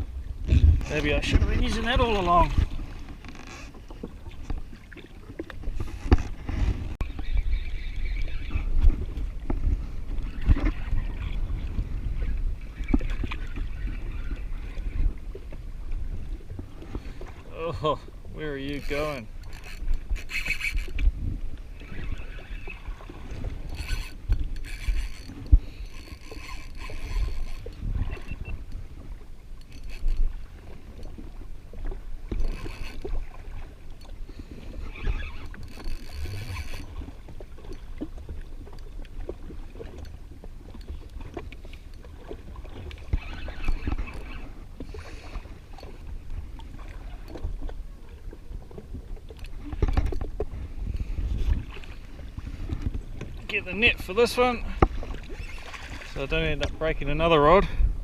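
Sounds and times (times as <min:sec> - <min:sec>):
water splashing on hull: 0:00.0 - 0:58.0
wind rumble on microphone: 0:00.0 - 0:58.0.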